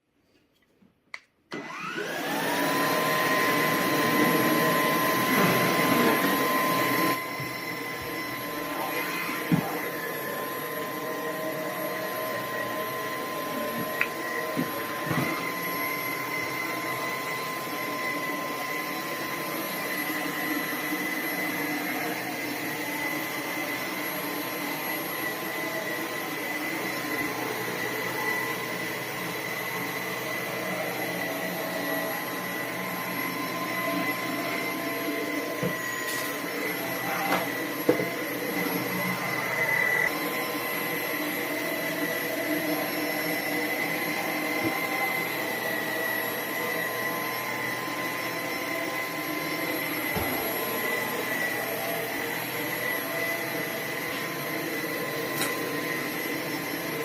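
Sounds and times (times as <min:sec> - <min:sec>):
vacuum motor whining: 0:01.5 - 0:57.0.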